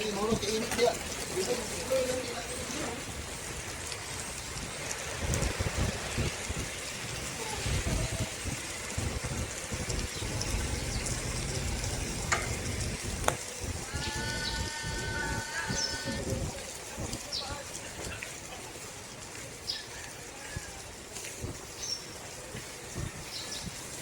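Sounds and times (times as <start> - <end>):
bicycle tyres hissing on road: 0.0 - 24.0
wind gusting on microphone: 2.4 - 18.2, 20.1 - 24.0.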